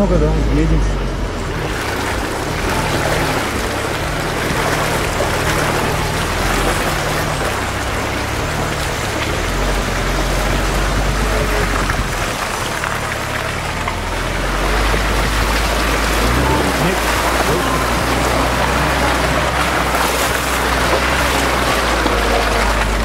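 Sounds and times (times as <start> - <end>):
car engine running at low speed: 0.0 - 23.0
muddy water splashing under tyres: 0.0 - 23.0.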